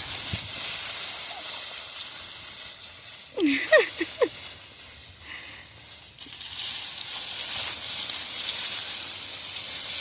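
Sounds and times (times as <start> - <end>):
wind hiss on microphone: 0.0 - 10.0.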